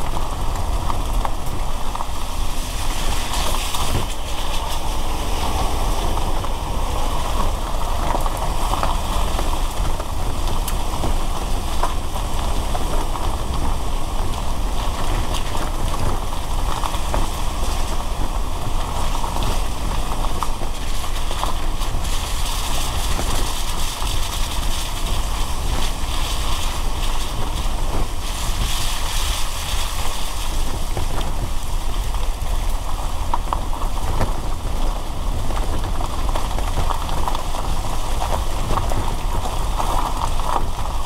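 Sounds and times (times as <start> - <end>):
car engine rumble: 0.0 - 41.0
rain and spray hissing: 0.0 - 41.0
tyres on wet road: 0.0 - 41.0.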